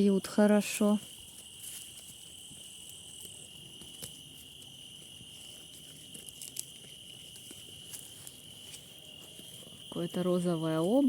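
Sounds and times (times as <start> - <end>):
crickets trilling: 0.0 - 11.0
higher insect trill: 0.0 - 11.0.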